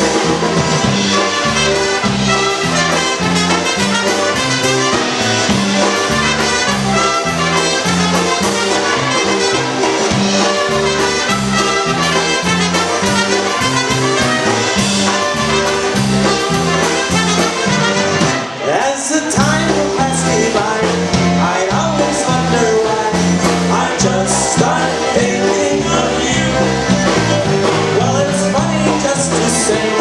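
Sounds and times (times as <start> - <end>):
bouncing bass beat: 0.0 - 18.4, 19.4 - 29.6
brass melody: 0.0 - 30.0
polka band playing: 0.0 - 30.0.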